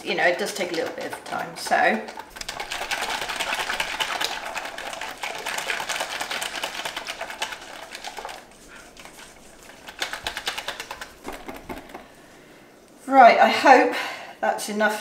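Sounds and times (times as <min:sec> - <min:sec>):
whisk clattering in a bowl: 0:00.0 - 0:12.2.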